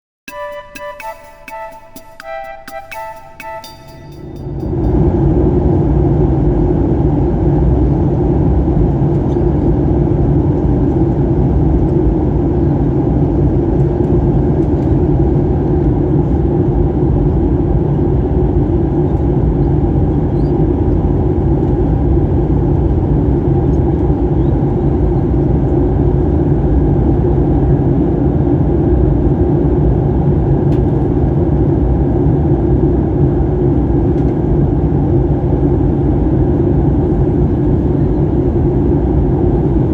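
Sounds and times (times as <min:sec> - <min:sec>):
airliner cabin engine roar: 0:04.7 - 0:39.9.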